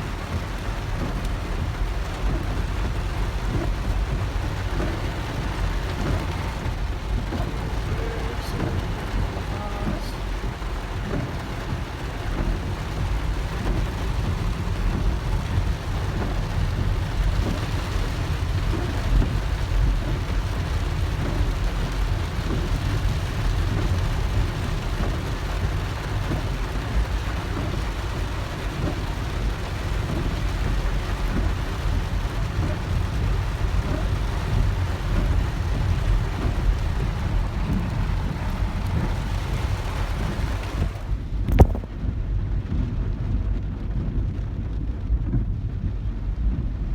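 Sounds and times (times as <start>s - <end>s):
heavy rain on car: 0.0s - 46.9s
low road rumble: 0.0s - 46.9s.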